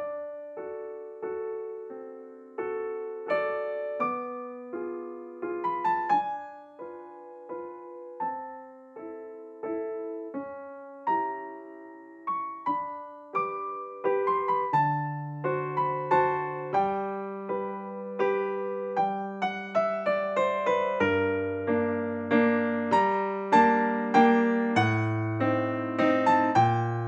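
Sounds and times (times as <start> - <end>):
gentle piano chords: 0.0 - 27.0.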